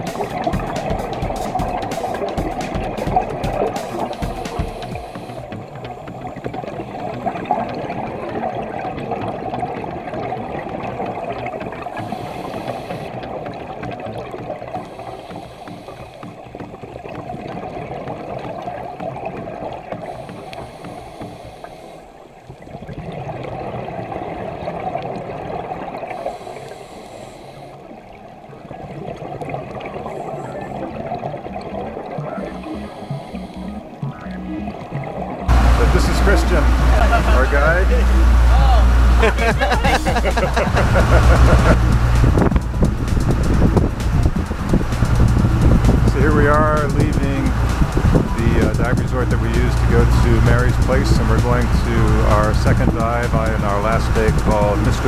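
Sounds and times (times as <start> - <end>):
muffled rushing gurgling water: 0.0 - 55.0.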